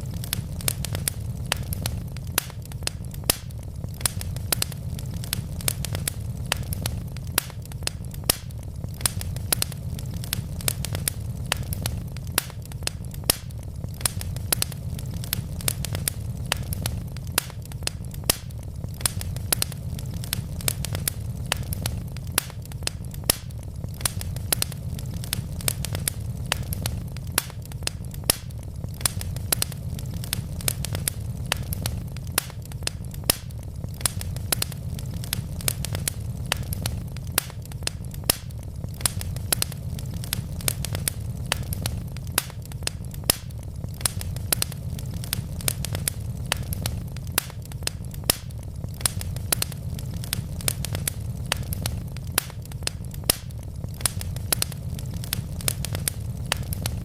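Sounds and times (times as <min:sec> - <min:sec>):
logs crackling and popping: 0:00.0 - 0:57.0
low rumble of fire: 0:00.0 - 0:57.0.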